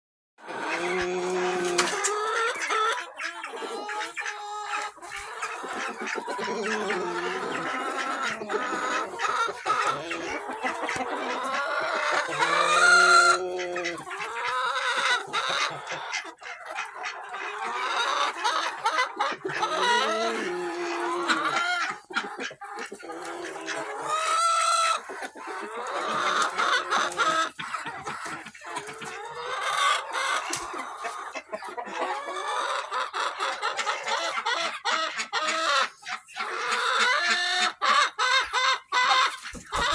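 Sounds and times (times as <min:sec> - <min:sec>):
chickens clucking: 0:00.4 - 0:39.9
drawn-out chicken calls: 0:00.4 - 0:39.9.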